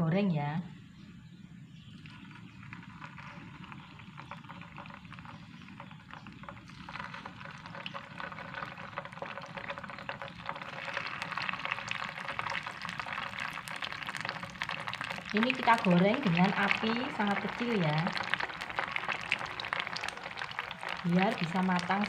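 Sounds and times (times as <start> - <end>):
hot oil sizzling and crackling: 2.0 - 22.0.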